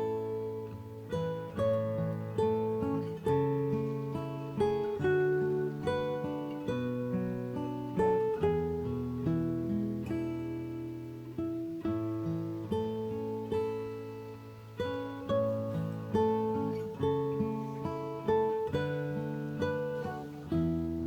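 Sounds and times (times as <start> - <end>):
acoustic guitar strummed and picked: 0.0 - 21.0.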